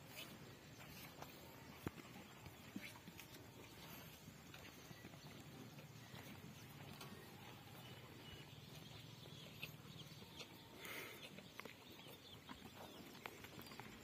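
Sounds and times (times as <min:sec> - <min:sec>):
bird chirps: 0:02.4 - 0:14.0.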